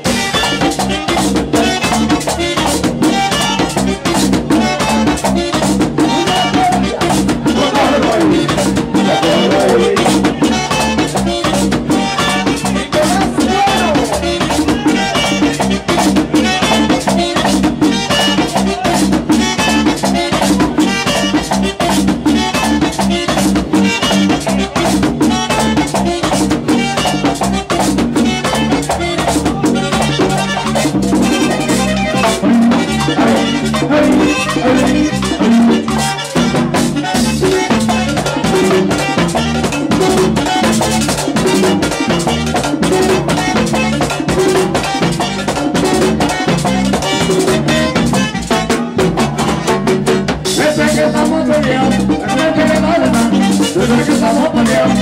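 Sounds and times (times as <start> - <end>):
drums: 0.0 - 55.0
latin dance band music: 0.0 - 55.0
rattle percussion: 0.0 - 55.0.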